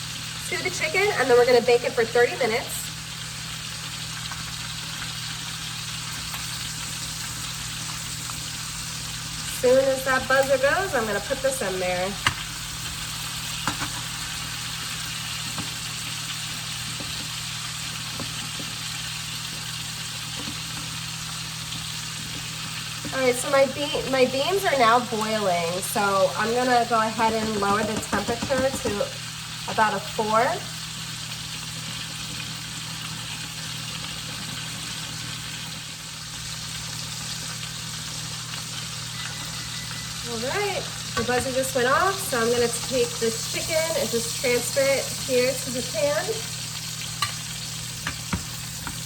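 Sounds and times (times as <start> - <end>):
chicken sizzling in a frying pan: 0.0 - 49.0.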